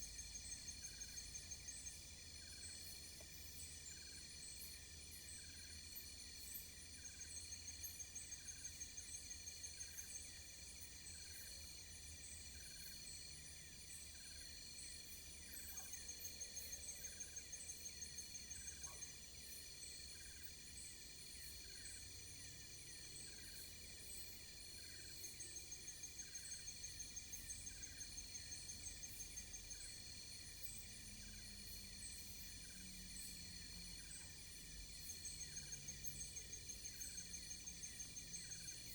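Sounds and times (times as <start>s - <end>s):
insect fast trill: 0.0s - 38.9s.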